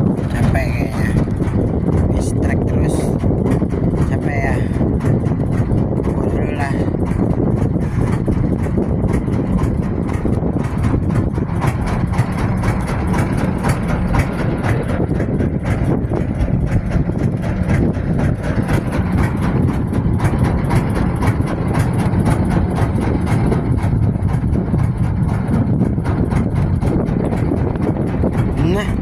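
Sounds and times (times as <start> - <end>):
engine droning: 0.0 - 29.0.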